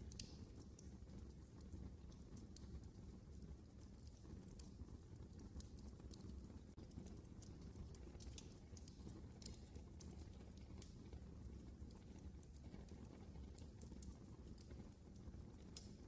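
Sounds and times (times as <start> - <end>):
fire crackling and popping: 0.0 - 16.0
low fire rumble: 0.0 - 16.0.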